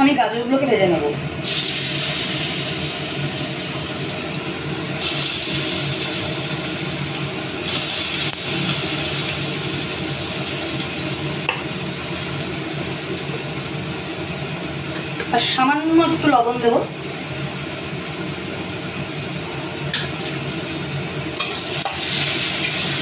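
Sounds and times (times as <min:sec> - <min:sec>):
carrots sizzling in hot oil: 0:01.4 - 0:23.0.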